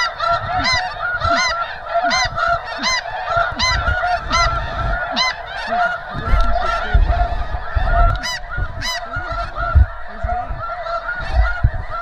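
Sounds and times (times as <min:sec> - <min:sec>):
geese honking: 0:00.0 - 0:12.0
low rumbling bursts: 0:00.0 - 0:12.0.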